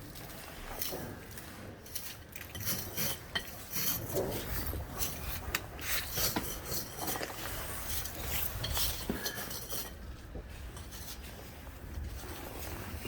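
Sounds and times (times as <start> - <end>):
hand tools clinking and scraping: 0.0 - 13.0.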